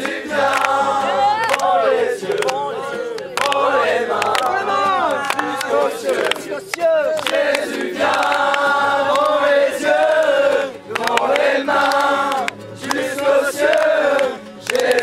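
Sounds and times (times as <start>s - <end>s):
young voices singing together: 0.0s - 15.0s.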